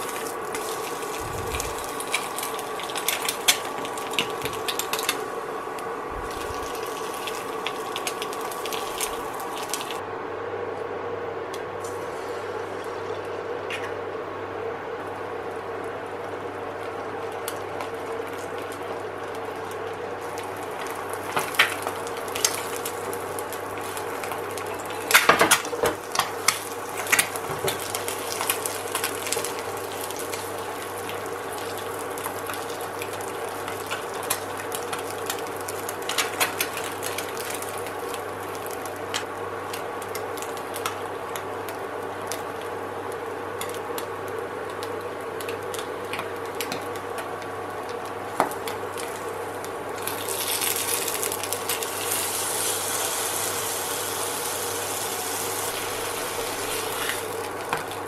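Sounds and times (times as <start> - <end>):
egg sizzling in frying pan: 0.0 - 10.0, 11.8 - 13.9, 15.0 - 58.0.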